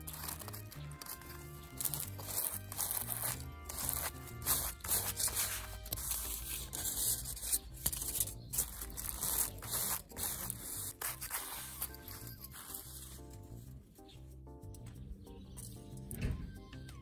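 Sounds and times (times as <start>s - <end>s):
aluminium foil crinkly scraping: 0.0s - 13.6s
quiet background music: 0.0s - 17.0s.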